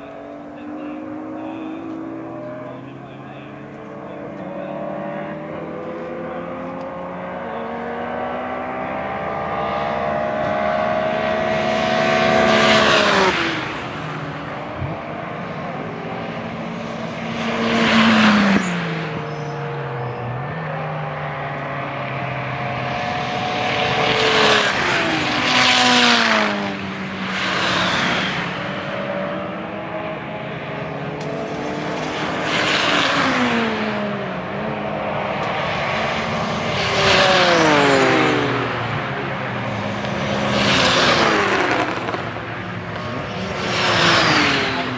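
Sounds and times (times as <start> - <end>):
racing cars passing at speed: 0.0 - 44.9.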